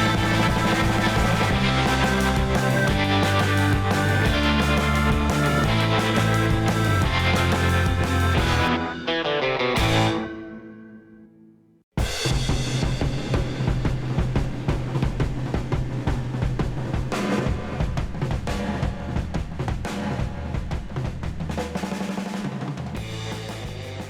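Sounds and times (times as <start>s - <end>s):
background music with drums and bass: 0.0s - 10.4s, 12.0s - 24.0s.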